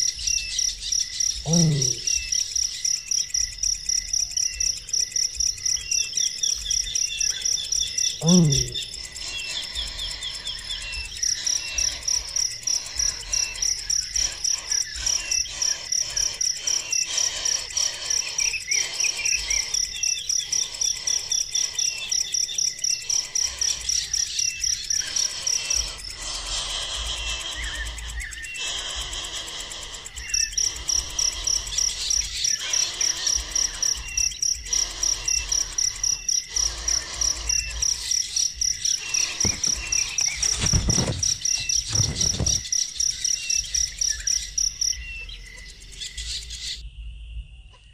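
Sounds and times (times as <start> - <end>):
faint bird chirps: 0.0 - 47.9
insect chirping: 0.0 - 47.9.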